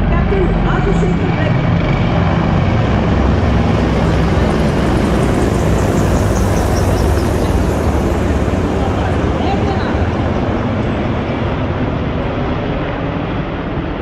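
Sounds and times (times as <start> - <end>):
helicopter rotor and engine rumble: 0.0 - 14.0.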